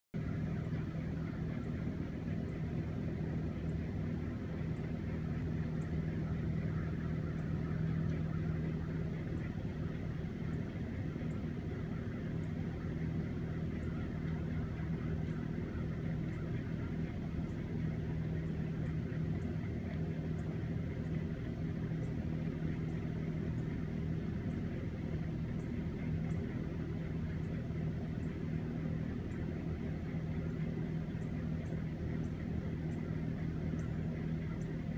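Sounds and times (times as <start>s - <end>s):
exhaust fans running: 0.2s - 34.9s.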